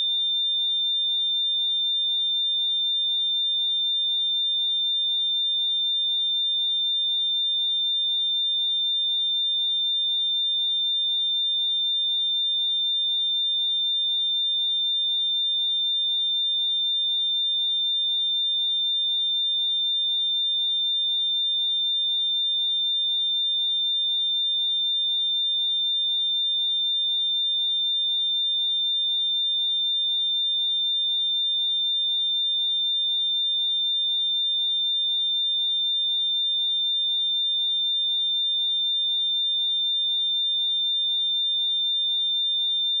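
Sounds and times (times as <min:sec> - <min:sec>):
high-pitched sine-wave test tone: 0:00.0 - 0:43.0.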